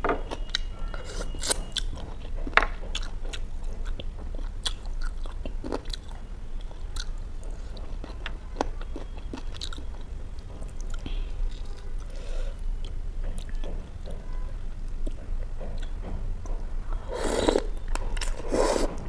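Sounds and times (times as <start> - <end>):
person chewing food: 0.2 - 19.0.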